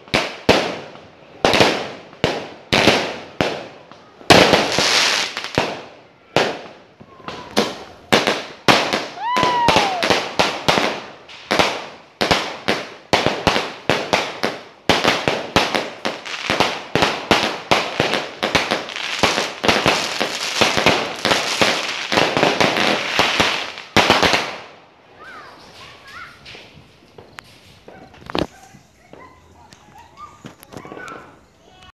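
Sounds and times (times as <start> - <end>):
fireworks bangs and crackles: 0.0 - 31.8.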